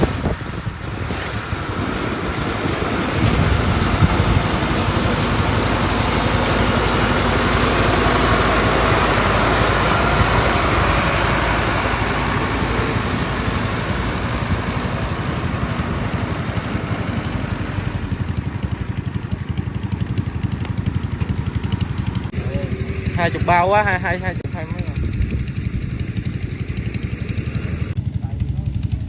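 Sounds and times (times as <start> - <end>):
combine harvester engine drone: 0.0 - 29.0.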